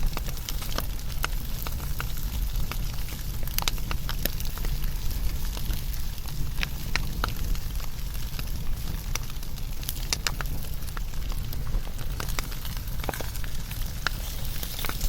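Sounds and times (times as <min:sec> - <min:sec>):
low steady fire rumble: 0:00.0 - 0:15.0
wood fire crackling and popping: 0:00.0 - 0:15.0.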